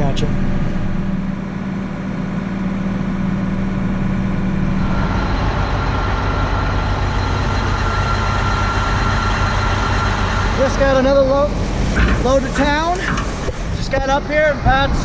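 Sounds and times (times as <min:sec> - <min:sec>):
heavy vehicle engine running: 0:00.0 - 0:15.0
low hum: 0:00.0 - 0:15.0
steady whine: 0:00.0 - 0:15.0.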